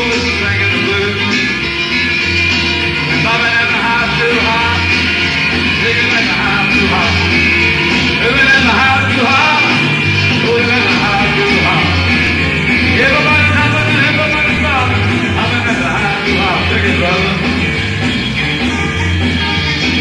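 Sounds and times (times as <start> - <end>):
live rock and roll band: 0.0 - 20.0
person singing: 0.0 - 20.0.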